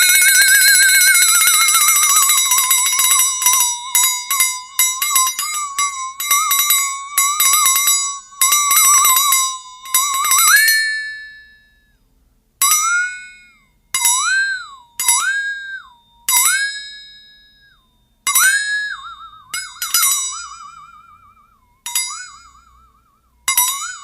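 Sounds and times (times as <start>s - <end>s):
flexatone wobbling metallic tone: 0.0s - 11.9s, 12.6s - 24.0s.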